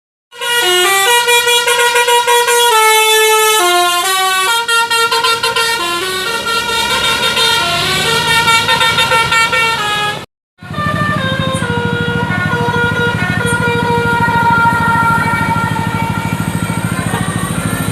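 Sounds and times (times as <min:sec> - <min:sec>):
bus horn playing a melody: 0:00.3 - 0:17.9.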